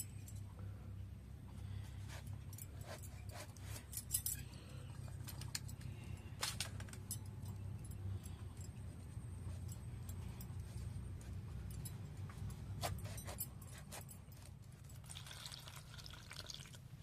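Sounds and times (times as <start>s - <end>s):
light metallic clinks and clicks: 0.0s - 0.8s, 1.5s - 15.2s
steady low hum: 0.0s - 17.0s.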